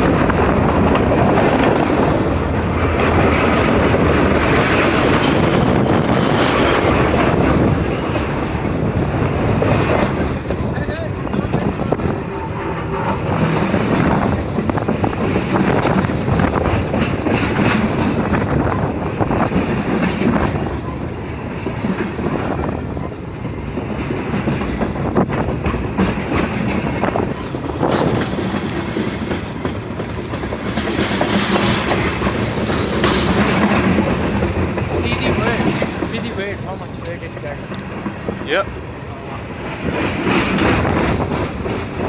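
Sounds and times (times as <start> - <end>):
freight train cars rumbling: 0.0 - 42.0
wheels clacking over rail joints: 0.0 - 42.0.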